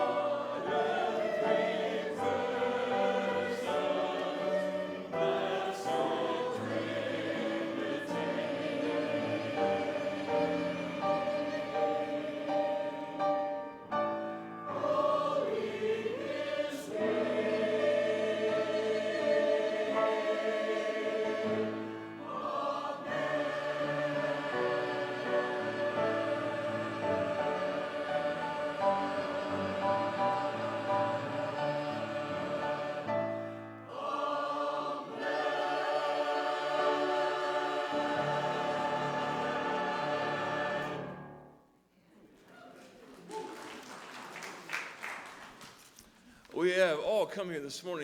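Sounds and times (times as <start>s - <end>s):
choir singing sustained notes: 0.0s - 41.6s.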